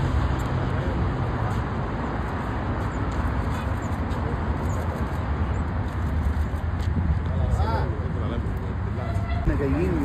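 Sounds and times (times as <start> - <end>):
low rumble of road traffic: 0.0 - 10.0.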